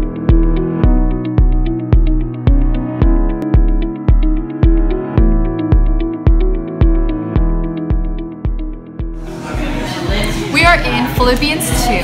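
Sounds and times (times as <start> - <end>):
electronic music: 0.0 - 12.0
kick drum: 0.0 - 12.0
synth chords: 0.0 - 12.0.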